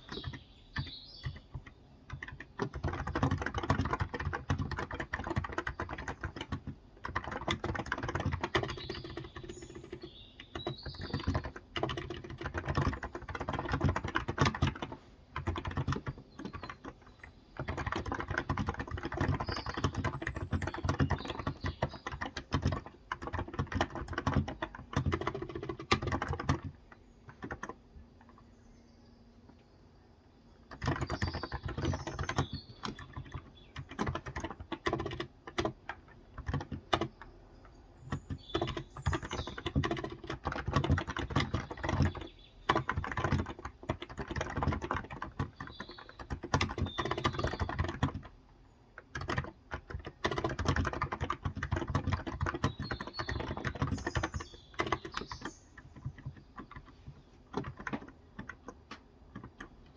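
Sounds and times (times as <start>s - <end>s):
faint bird chirps: 0.0s - 4.6s, 7.3s - 35.2s, 36.4s - 43.5s, 44.5s - 48.8s, 52.0s - 57.4s
keyboard typing: 0.0s - 28.5s, 30.6s - 59.9s.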